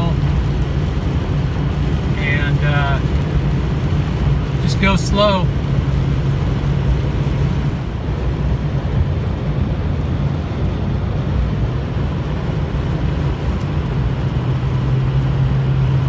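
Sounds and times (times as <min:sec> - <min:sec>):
low engine drone: 0:00.0 - 0:16.0
road and wind noise: 0:00.0 - 0:16.0.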